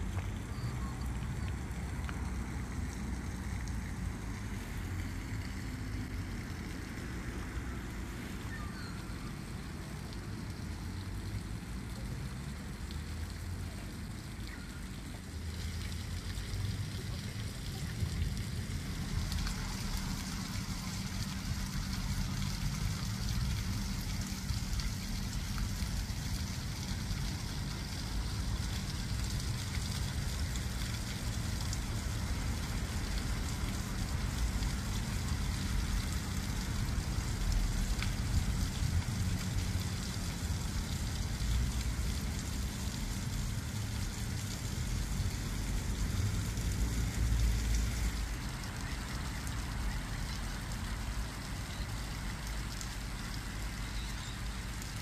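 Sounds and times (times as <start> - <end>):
running water splashing: 0.0 - 55.0.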